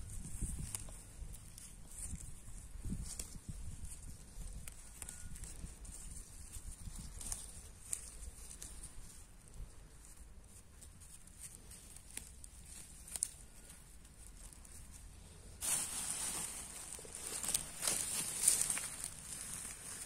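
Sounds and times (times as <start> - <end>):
leafy greens rustling and snapping: 0.0 - 20.0.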